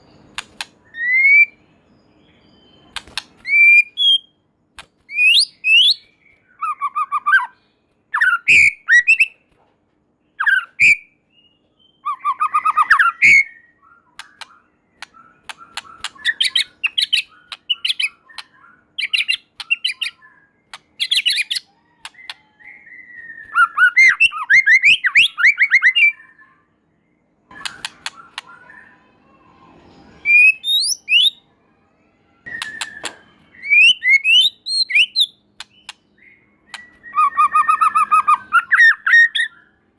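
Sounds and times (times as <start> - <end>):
bird singing whistled phrases: 0.8 - 4.4, 5.1 - 9.4, 10.4 - 26.7, 27.5 - 31.4, 32.5 - 39.8.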